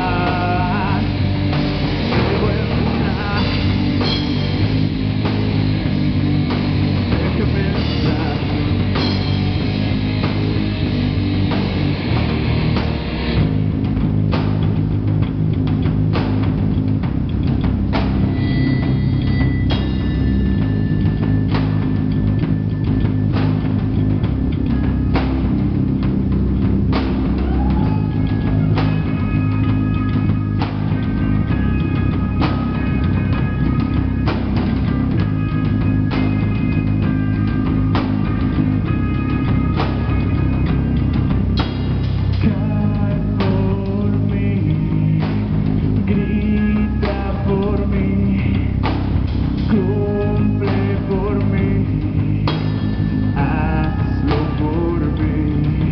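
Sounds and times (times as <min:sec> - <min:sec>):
drums beating: 0:00.0 - 0:55.9
heavy rock band playing: 0:00.0 - 0:55.9.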